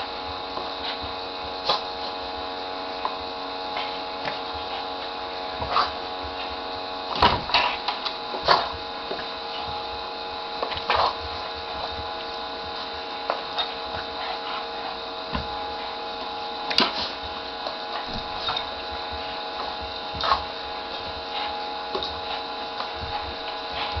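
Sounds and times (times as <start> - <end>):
small electric motor humming: 0.0 - 24.0.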